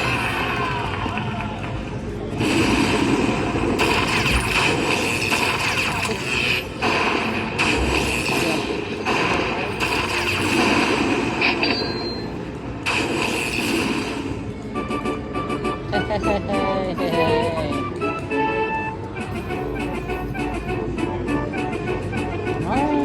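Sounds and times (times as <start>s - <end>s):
busy casino floor noise: 0.0s - 23.0s
slot machine bonus sounds: 0.0s - 23.0s.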